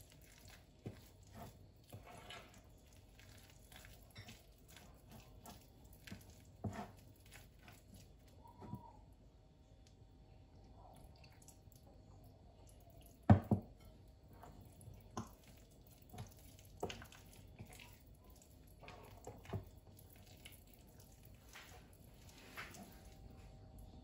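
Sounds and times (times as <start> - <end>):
batter squishing while stirred: 0.0 - 24.0.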